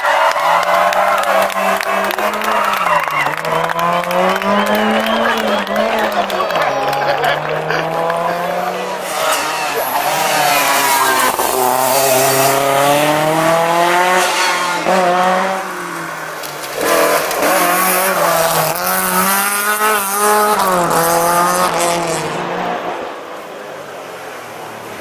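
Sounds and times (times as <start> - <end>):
rally car engine revving: 0.0 - 23.4.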